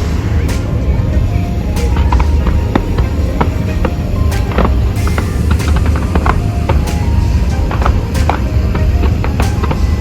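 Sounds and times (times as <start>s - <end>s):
deep rumble: 0.0s - 10.0s
loud music: 0.0s - 10.0s
fireworks bursting and crackling: 1.7s - 10.0s.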